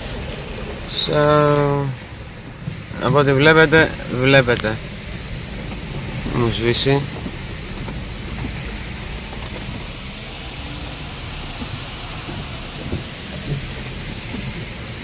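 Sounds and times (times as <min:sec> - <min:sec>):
low road noise: 0:00.0 - 0:15.0
rain on car roof: 0:00.0 - 0:15.0.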